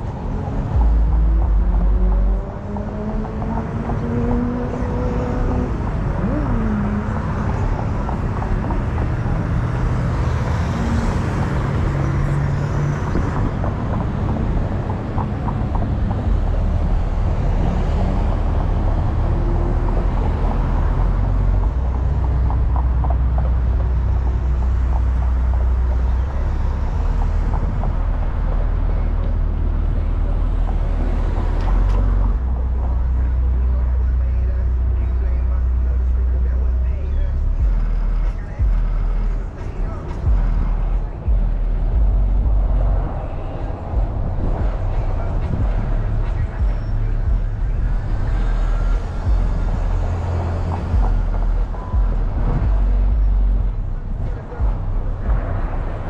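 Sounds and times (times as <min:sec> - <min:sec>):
deep rumble: 0:00.0 - 0:56.0
road and tyre noise: 0:00.0 - 0:56.0.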